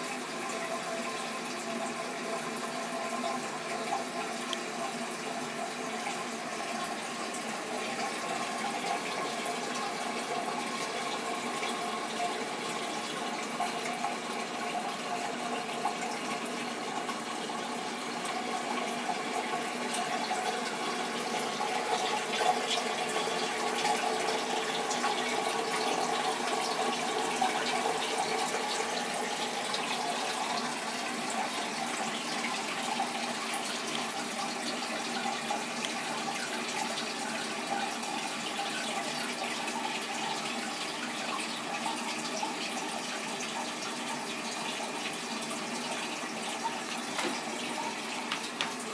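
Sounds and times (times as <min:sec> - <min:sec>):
liquid trickling into toilet bowl: 0:00.0 - 0:48.9.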